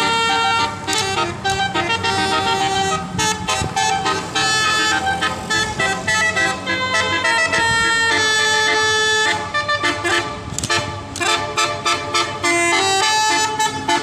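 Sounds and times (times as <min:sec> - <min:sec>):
multi-tone air horn melody: 0:00.0 - 0:14.0.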